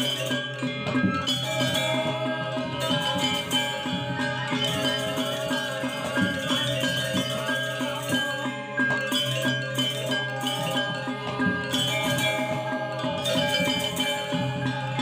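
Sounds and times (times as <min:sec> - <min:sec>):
metallophones ringing: 0:00.0 - 0:15.0.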